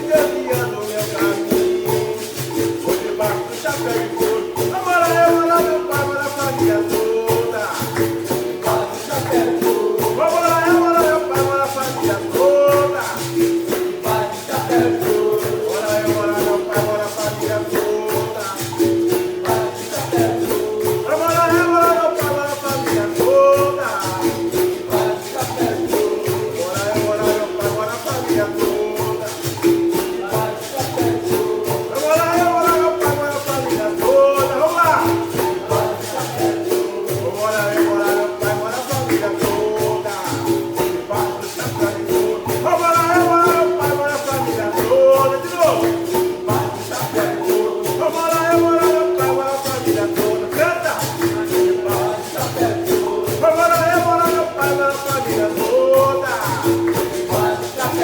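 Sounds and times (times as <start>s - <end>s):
berimbau: 0.0s - 58.0s
person singing: 0.0s - 58.0s
shaker rattles: 0.0s - 58.0s
tambourine rhythm: 0.0s - 58.0s.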